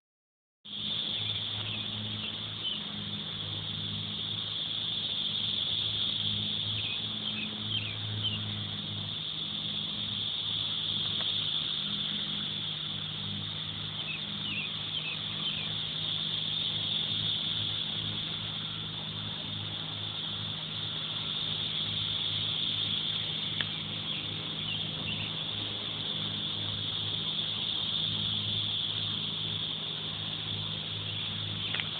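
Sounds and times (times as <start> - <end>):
cicadas buzzing: 0.6 - 31.9
low hum: 0.7 - 31.9.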